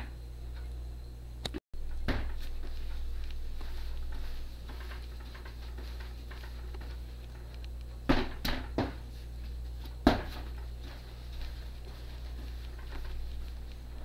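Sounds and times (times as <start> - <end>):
dough rustling: 1.8 - 14.0.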